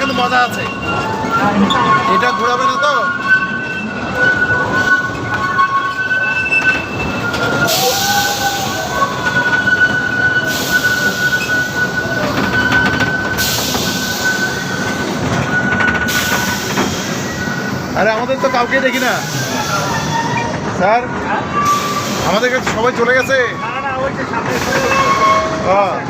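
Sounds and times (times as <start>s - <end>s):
high wheel squeal: 0.0s - 26.0s
ride train rolling rumble: 0.0s - 26.0s.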